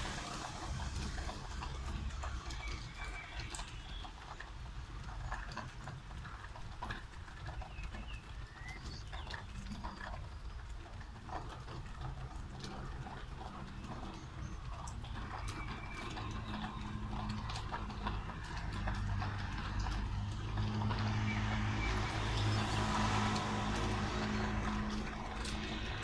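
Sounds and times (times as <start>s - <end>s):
raindrops tapping on hard surfaces: 0.0s - 26.0s.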